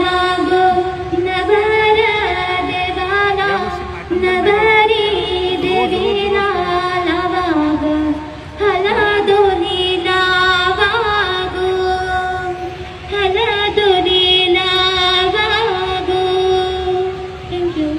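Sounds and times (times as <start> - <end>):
woman singing unaccompanied: 0.0 - 17.9.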